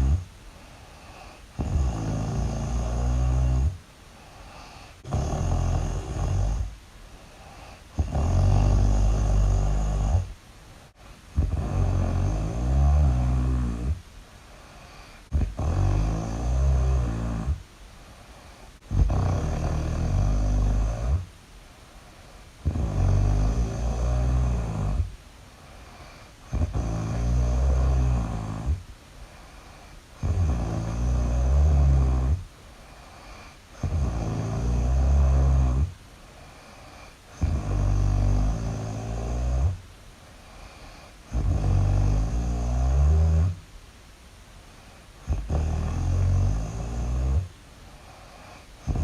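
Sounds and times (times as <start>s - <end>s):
loud deep snoring: 0.0s - 0.3s, 0.9s - 10.4s, 11.3s - 14.0s, 14.6s - 17.6s, 18.8s - 21.3s, 22.6s - 39.8s, 40.4s - 43.6s, 44.8s - 49.0s.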